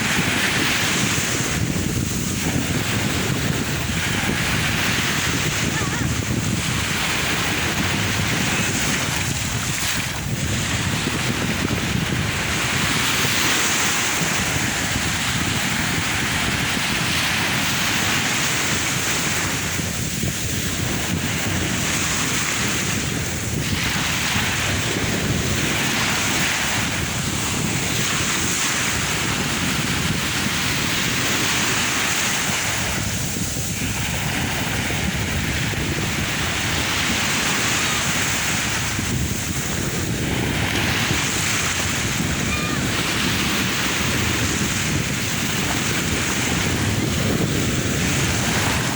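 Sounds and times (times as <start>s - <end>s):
sea waves breaking: 0.0s - 48.9s
wind rumbling on microphone: 0.0s - 48.9s.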